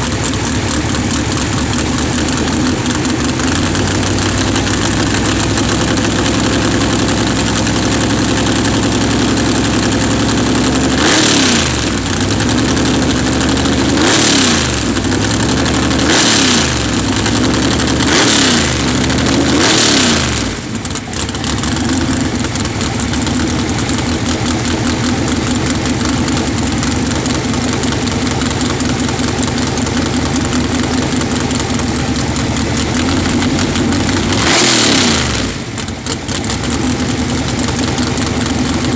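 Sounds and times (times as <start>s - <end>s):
drag racing engine idling and revving: 0.0s - 38.9s.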